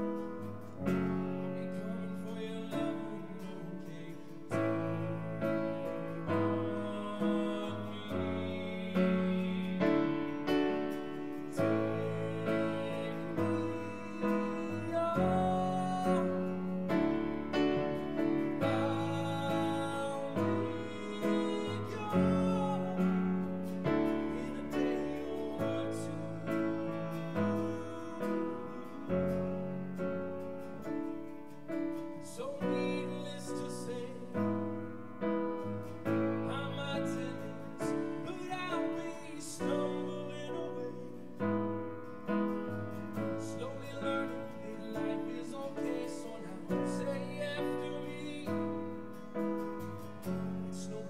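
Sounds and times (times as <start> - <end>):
acoustic guitar playing: 0.0 - 51.0
grand piano playing chords: 0.0 - 51.0.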